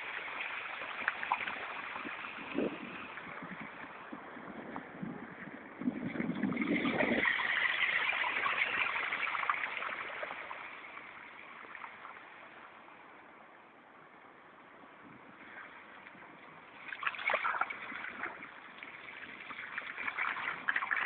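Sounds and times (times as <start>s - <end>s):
rushing splashing floodwater: 0.0s - 13.1s, 15.3s - 21.0s.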